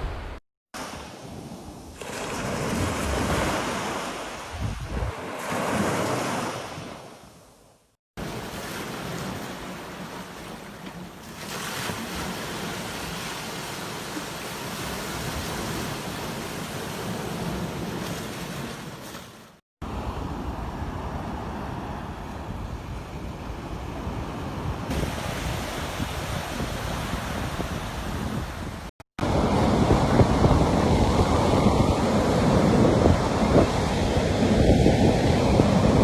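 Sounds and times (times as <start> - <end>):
sea waves breaking on beach: 0.0 - 7.2, 8.2 - 36.0.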